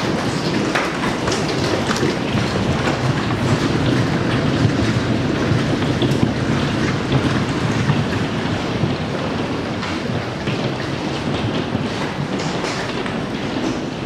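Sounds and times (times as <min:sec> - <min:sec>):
hailstones clicking on hard surfaces: 0:00.0 - 0:14.0.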